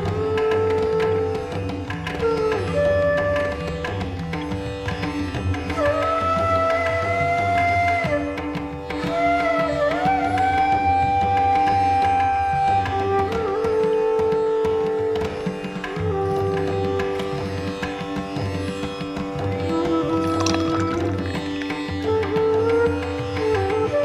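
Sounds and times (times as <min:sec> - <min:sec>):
indian classical instrumental music: 0:00.0 - 0:24.0.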